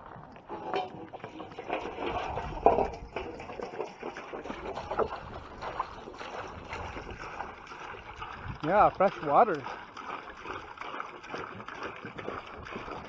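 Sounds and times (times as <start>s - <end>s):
water pouring and splashing: 0.0s - 13.0s.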